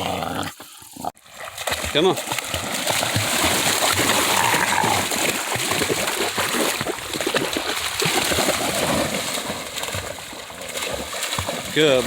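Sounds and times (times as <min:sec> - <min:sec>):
dog splashing in water: 0:01.3 - 0:12.0.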